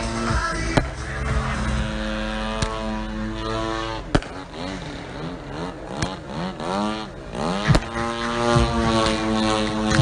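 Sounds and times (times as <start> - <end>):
sharp cracks: 0.0 - 10.0
model plane engine revving: 1.2 - 10.0.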